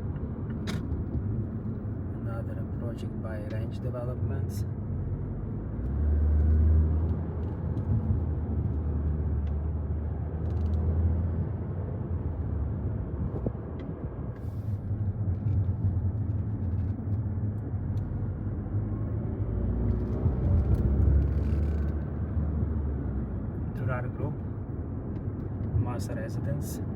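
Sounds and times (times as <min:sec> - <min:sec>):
car road and engine rumble: 0:00.0 - 0:26.9.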